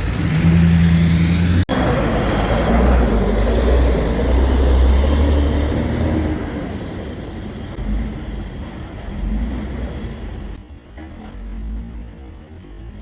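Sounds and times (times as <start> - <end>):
car and truck engines: 0.0 - 13.0.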